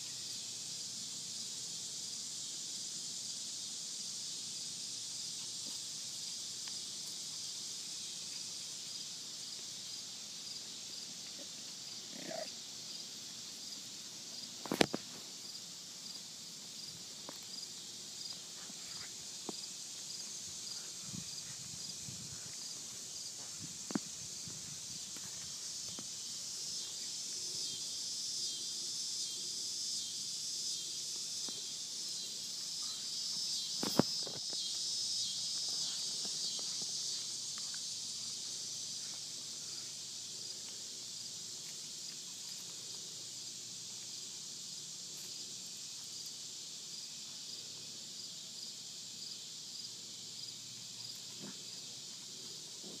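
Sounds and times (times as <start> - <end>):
cicada buzzing: 0.0 - 53.0.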